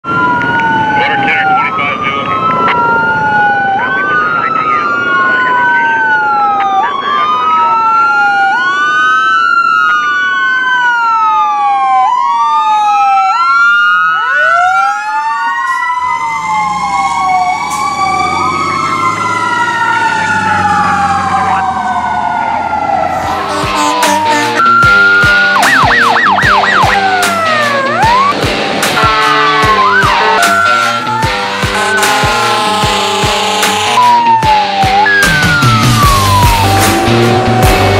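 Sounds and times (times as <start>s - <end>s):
fire engine siren wailing: 0.0s - 37.9s
second siren rising and falling: 0.0s - 37.9s
truck engine rumble: 0.0s - 37.9s.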